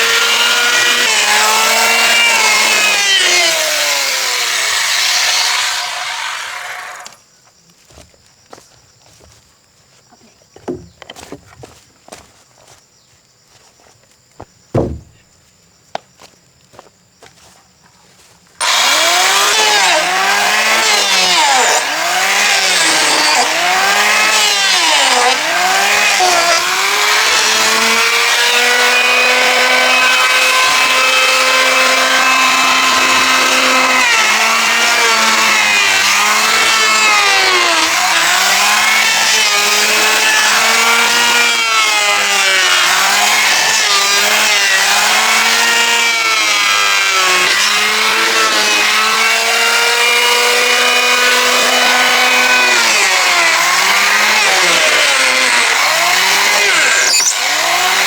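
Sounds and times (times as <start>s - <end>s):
chainsaw cutting wood: 0.0s - 7.2s, 10.6s - 12.2s, 14.8s - 15.2s, 18.6s - 58.0s.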